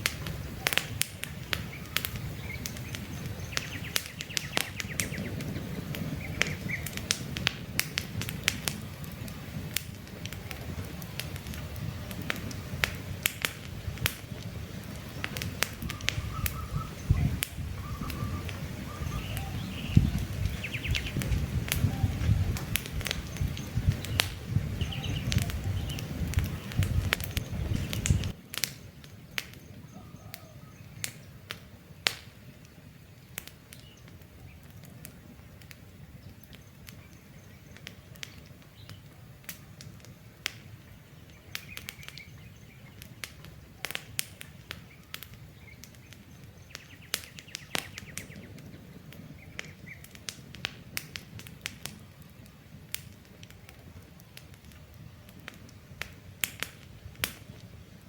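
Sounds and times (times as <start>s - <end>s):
birds chirping: 0.0s - 7.2s, 8.6s - 50.2s
campfire crackling and popping: 0.0s - 58.0s.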